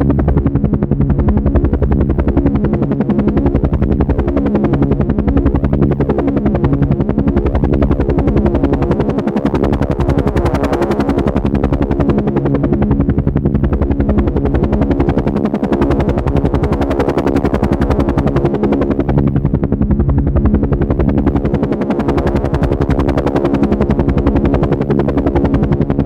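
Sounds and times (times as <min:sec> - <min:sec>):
engine drone: 0:00.0 - 0:26.0
helicopter rotor chopping: 0:00.0 - 0:26.0.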